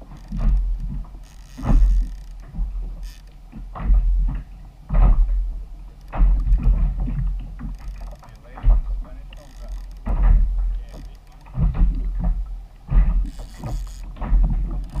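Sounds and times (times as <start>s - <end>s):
water slapping against kayak hull: 0.0s - 15.0s
wind rumble on microphone: 0.0s - 15.0s.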